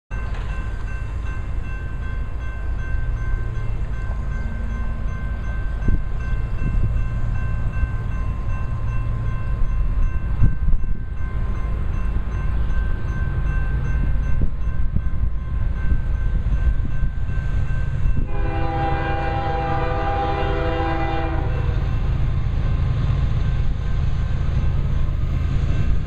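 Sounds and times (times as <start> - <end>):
crossing bell ringing: 0.1 - 26.0.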